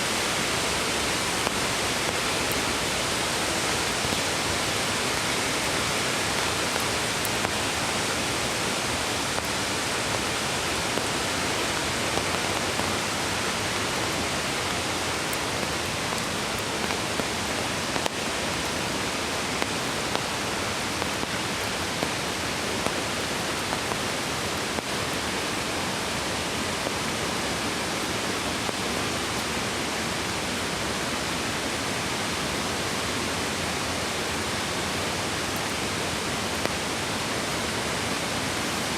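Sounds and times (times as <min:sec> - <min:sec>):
creek rushing: 0:00.0 - 0:38.9.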